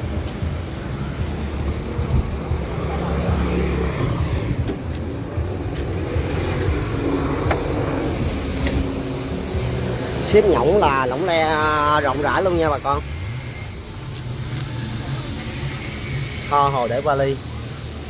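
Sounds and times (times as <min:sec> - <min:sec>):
car low rumble: 0:00.0 - 0:16.2
traffic noise: 0:00.0 - 0:18.0.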